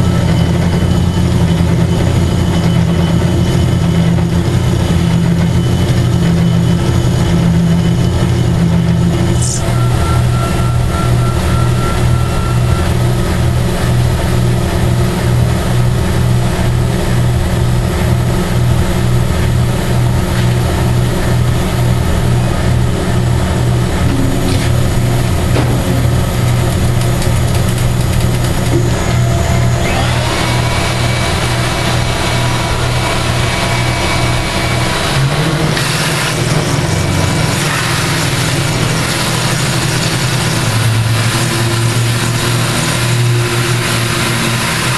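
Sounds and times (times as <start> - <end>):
high whine: 0.0 - 44.9
milling machine cutting metal: 0.0 - 44.9.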